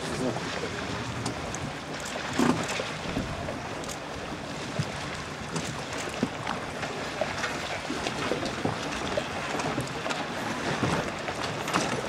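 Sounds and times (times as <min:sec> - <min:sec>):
choppy water splashing: 0:00.0 - 0:12.0.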